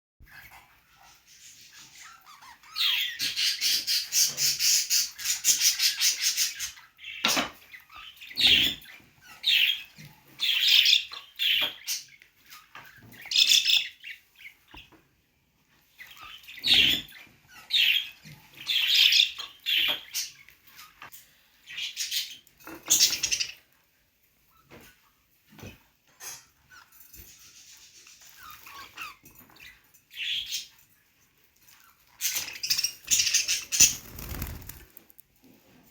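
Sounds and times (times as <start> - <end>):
budgerigars chirping and chattering: 0.2 - 15.0, 15.8 - 23.6, 24.5 - 35.0.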